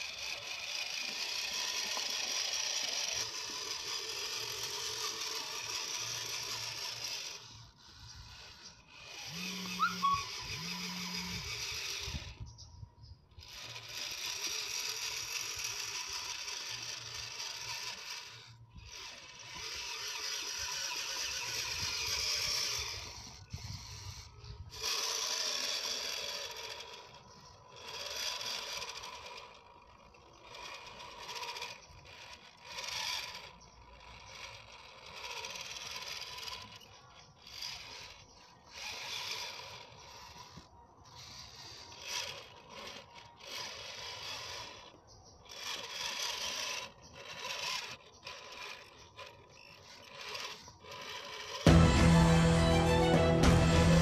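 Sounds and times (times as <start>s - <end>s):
scraping over track: 0.0s - 12.4s, 13.4s - 54.0s
toy car electric motor whirring: 0.0s - 54.0s.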